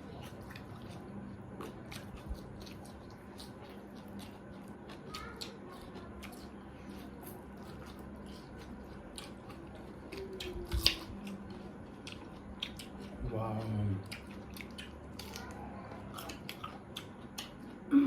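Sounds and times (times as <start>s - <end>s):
wet chewing: 0.0s - 17.9s.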